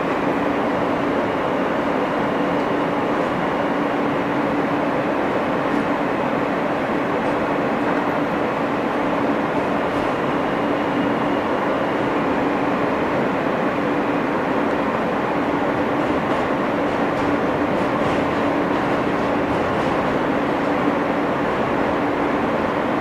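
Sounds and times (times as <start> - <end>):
subway car wheels rumbling: 0.0 - 23.0.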